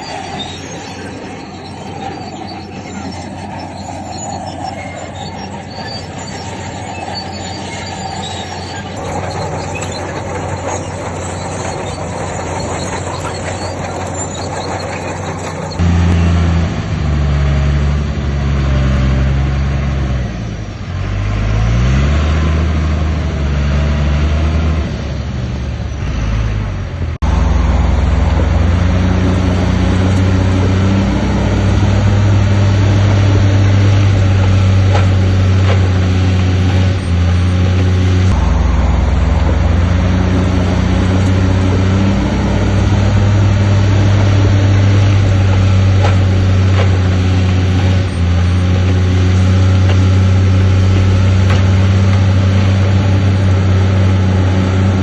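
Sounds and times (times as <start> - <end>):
crawler tracks squealing: 0.0 - 55.0
diesel engine under load: 0.0 - 55.0.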